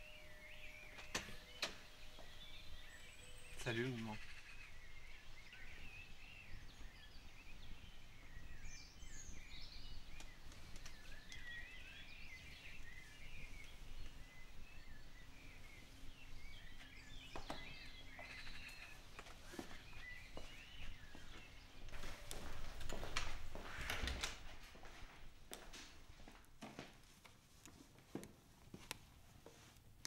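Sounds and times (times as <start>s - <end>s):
birds chirping and singing: 0.0s - 24.4s.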